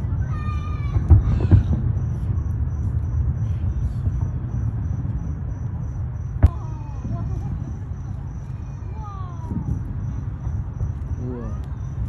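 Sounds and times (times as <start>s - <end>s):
crickets chirping: 0.0s - 12.0s
low outdoor rumble: 0.0s - 12.0s.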